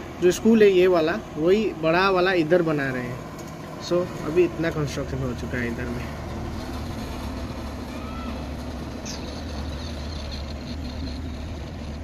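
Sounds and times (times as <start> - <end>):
distant diesel engine rumble: 0.0 - 12.0.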